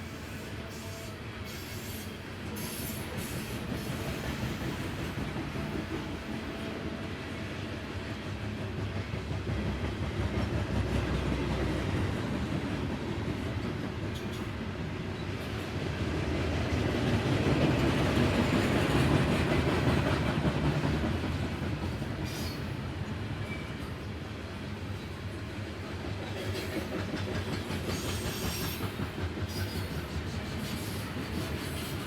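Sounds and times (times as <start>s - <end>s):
train cars rumbling over rails: 0.0s - 32.0s.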